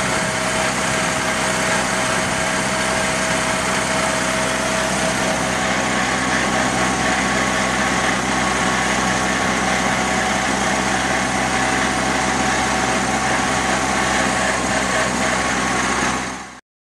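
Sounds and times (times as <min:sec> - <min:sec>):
tractor engine running: 0:00.0 - 0:16.6.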